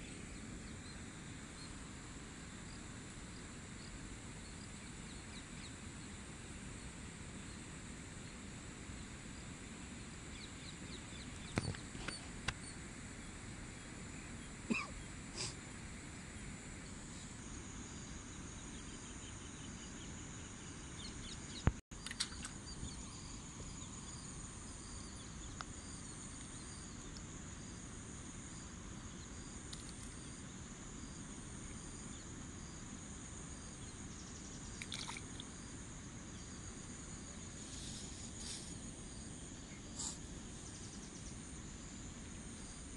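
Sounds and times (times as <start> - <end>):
insect chorus chirping: 0.0 - 42.9.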